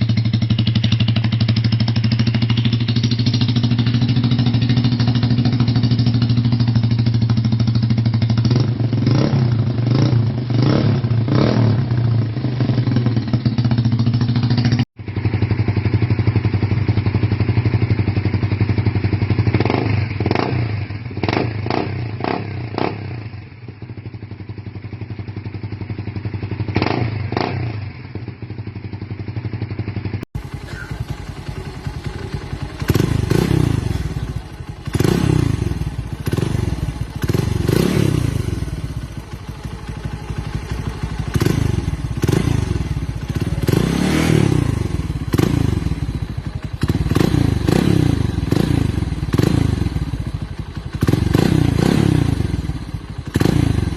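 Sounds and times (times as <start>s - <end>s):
motorcycle idling with throttle blips: 0.0s - 53.9s.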